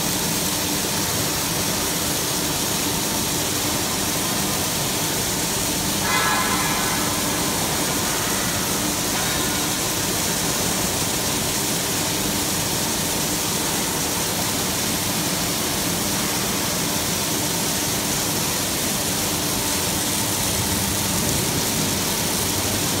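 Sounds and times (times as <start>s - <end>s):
factory machinery hum: 0.0s - 23.0s.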